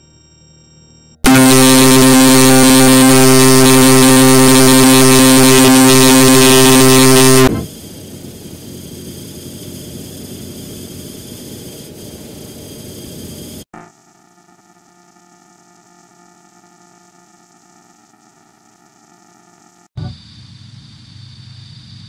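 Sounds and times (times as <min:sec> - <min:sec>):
electrical hum: 0:01.2 - 0:19.7.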